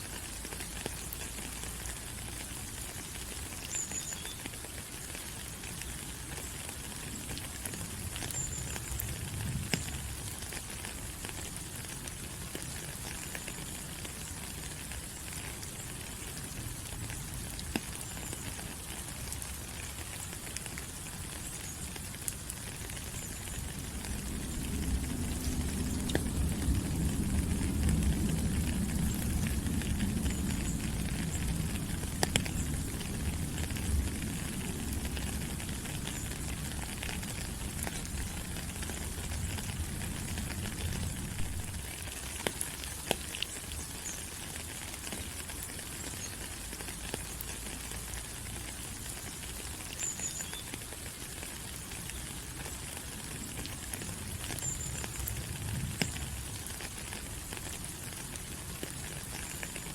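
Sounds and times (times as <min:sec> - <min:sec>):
rain falling on leaves: 0:00.0 - 0:59.9
water drips ticking: 0:00.1 - 0:59.9.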